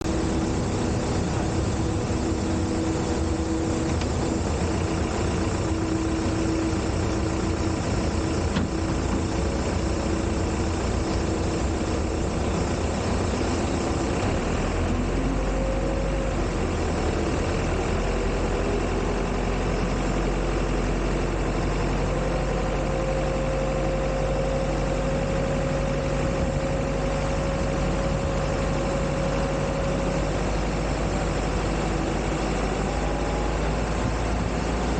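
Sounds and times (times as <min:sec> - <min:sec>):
jet airliner mechanical hum: 0:00.0 - 0:34.9
rising whine: 0:00.0 - 0:34.9.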